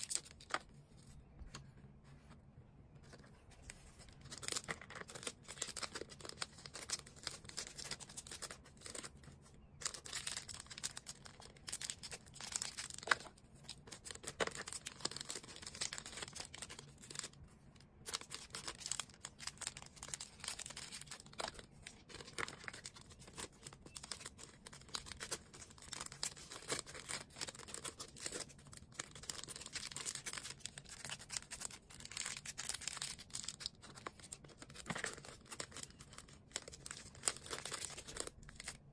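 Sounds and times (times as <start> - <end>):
packaging crinkling and rustling: 3.1 - 17.4, 18.0 - 38.9.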